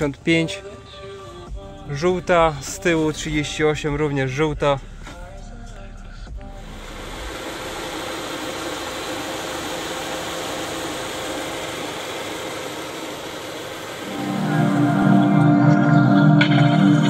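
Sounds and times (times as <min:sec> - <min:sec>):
loud music: 0:01.0 - 0:17.0
car engine running: 0:01.5 - 0:17.0.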